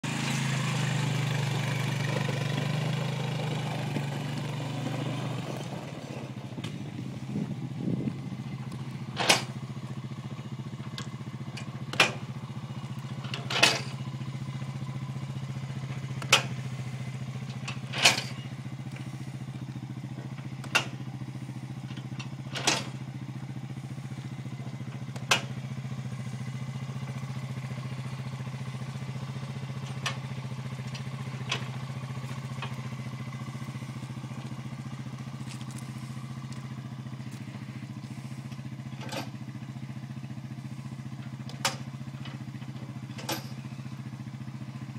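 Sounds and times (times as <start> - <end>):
quad bike engine idling: 0.0 - 44.9.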